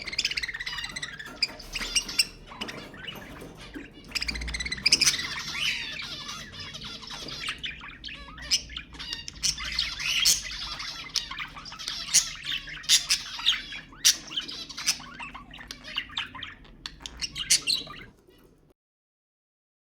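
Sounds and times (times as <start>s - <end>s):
budgerigars chattering and warbling: 0.0s - 18.7s.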